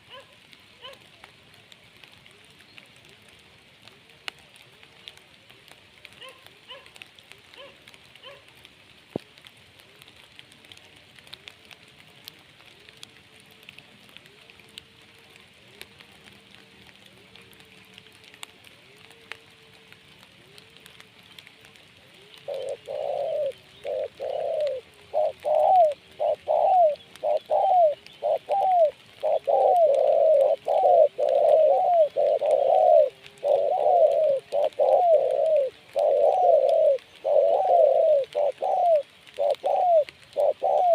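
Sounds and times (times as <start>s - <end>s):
dove cooing: 0.0s - 40.9s
faint steady hiss: 0.0s - 40.9s.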